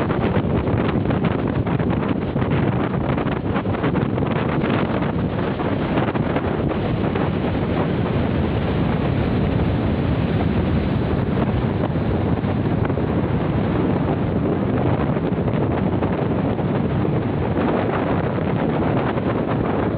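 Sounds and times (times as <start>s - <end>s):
surf washing on sandy beach: 0.0s - 19.9s
wind blowing across microphone: 0.0s - 19.9s.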